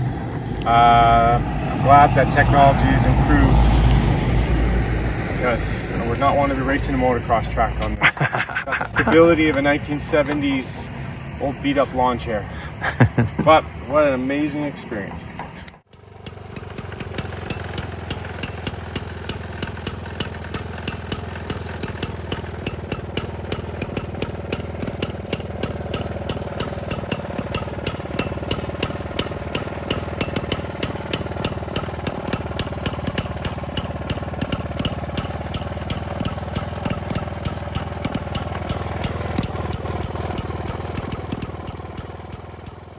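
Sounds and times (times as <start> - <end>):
single-cylinder engine ticking: 0.0 - 8.0, 15.6 - 42.9.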